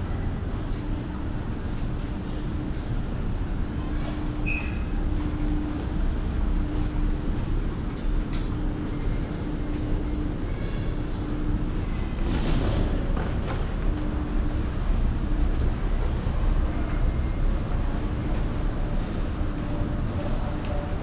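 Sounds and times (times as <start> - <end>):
moving walkway rumble and hum: 0.0 - 21.0.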